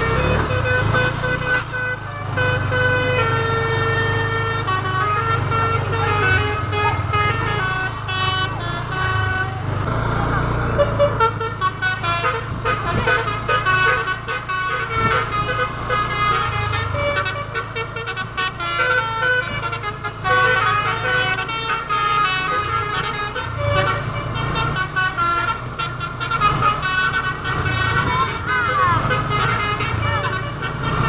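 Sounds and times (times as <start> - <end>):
bus engine running: 0.0 - 31.0
musical bus air horn tune: 0.0 - 31.0.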